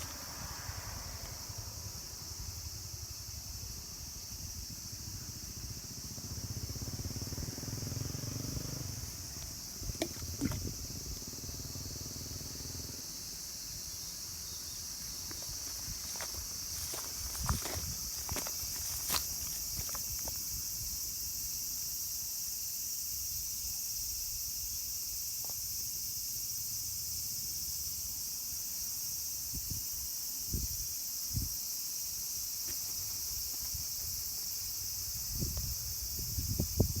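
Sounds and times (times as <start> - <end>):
insects chorus: 0.0 - 37.0.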